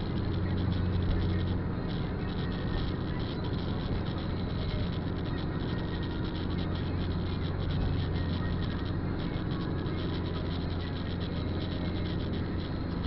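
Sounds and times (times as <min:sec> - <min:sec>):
car road and engine drone: 0:00.0 - 0:13.0.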